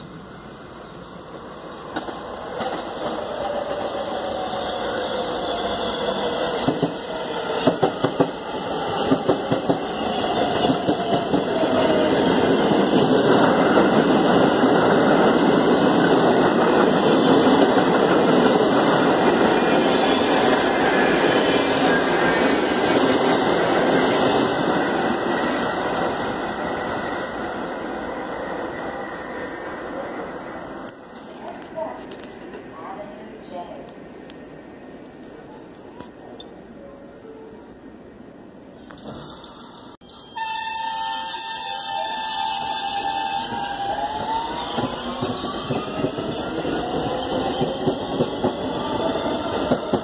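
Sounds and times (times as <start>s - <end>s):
subway train rumbling past: 0.0s - 50.0s.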